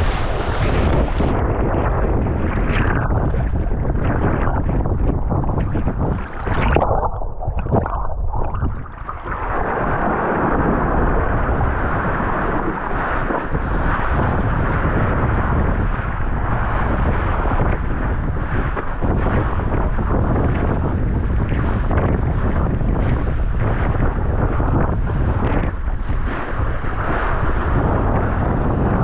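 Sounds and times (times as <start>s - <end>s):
water rushing under board: 0.0s - 29.0s
wind buffeting microphone: 0.0s - 29.0s.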